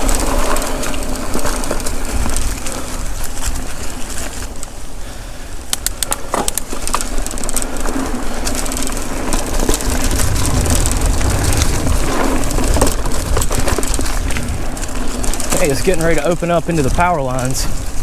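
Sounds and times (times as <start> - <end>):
bike clicks and rattles: 0.0 - 18.0
bike tyres rumbling on dirt and leaves: 0.0 - 18.0.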